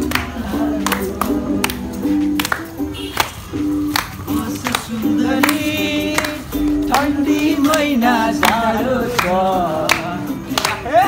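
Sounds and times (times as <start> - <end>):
music with singing voices: 0.0 - 11.0.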